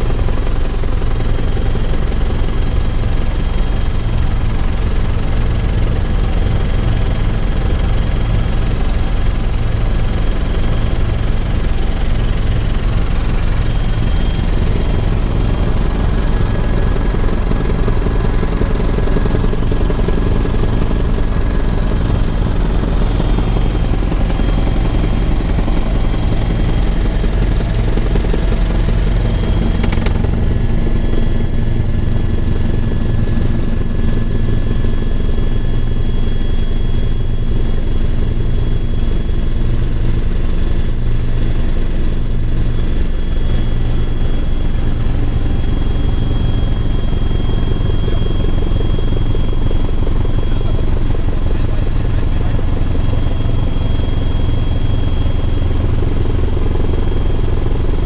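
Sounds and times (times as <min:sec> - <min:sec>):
helicopter rotor and engine drone: 0:00.0 - 0:58.0
high turbine whine: 0:00.0 - 0:58.0.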